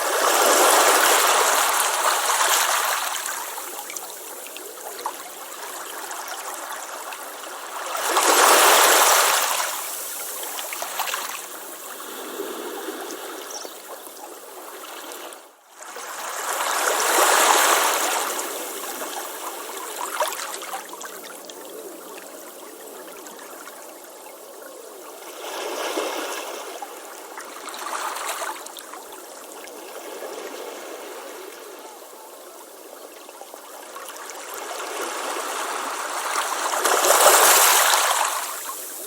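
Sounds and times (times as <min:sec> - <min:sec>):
ocean waves breaking on beach: 0:00.0 - 0:23.7, 0:25.2 - 0:39.0.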